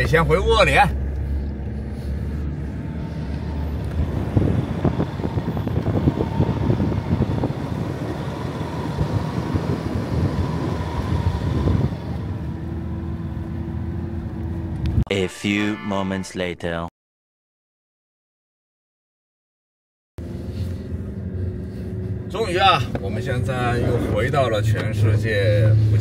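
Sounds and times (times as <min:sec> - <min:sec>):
car driving on rough track: 0:00.0 - 0:15.0, 0:20.2 - 0:26.0.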